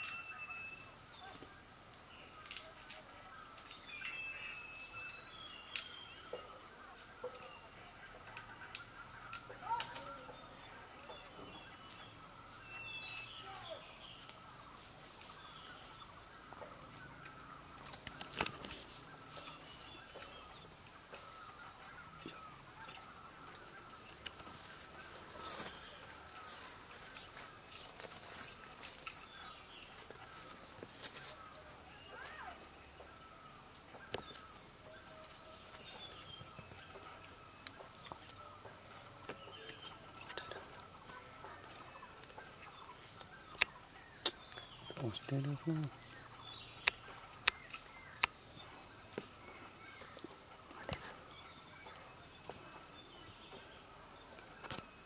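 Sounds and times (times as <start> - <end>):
bird chirps: 0.0 - 55.0.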